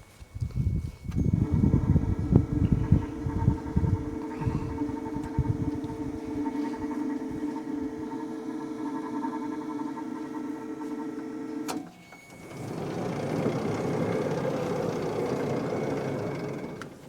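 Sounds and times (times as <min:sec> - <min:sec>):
rushing mechanical noise: 0:00.3 - 0:17.0
sawmill machine hum: 0:00.4 - 0:17.0.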